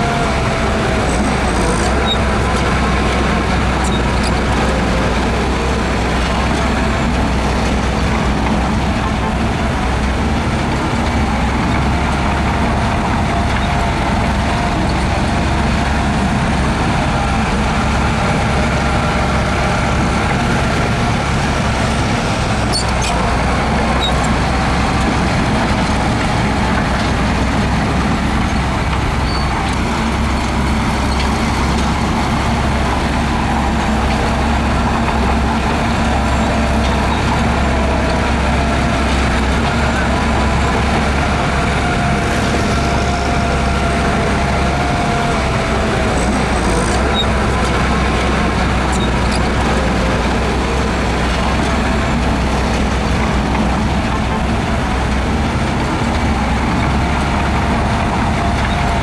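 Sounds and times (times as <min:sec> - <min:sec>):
diesel earthmover engine running: 0:00.0 - 0:59.0.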